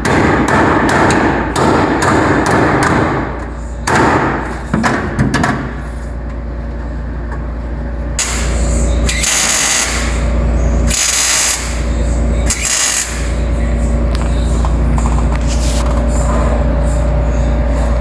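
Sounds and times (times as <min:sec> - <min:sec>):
steady shop hum: 0:00.0 - 0:18.0.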